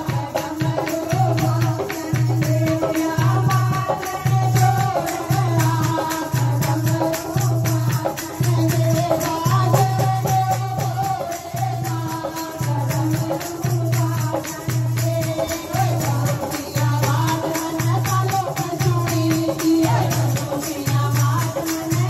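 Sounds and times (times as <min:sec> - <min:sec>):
percussion beat: 0:00.0 - 0:22.0
women singing devotional song: 0:00.0 - 0:22.0.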